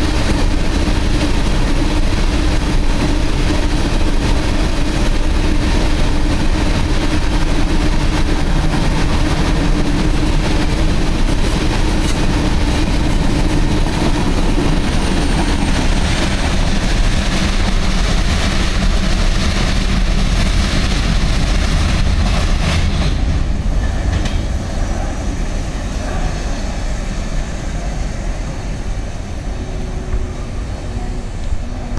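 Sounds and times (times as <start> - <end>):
train wheels rolling on rails: 0.0 - 31.9.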